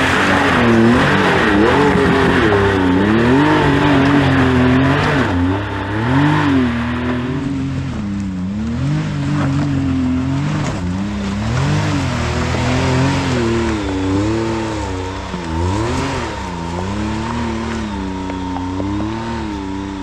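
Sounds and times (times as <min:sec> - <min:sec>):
utv engine climbing on changing throttle: 0:00.0 - 0:20.0.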